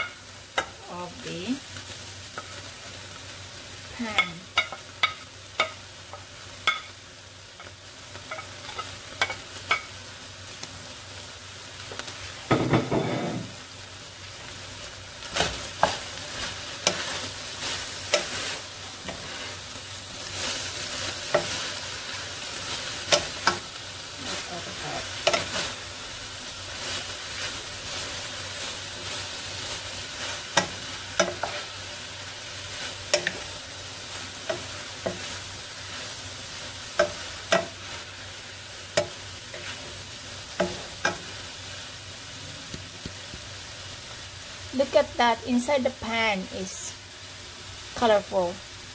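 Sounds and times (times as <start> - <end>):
food sizzling in a pot: 0.0 - 48.9.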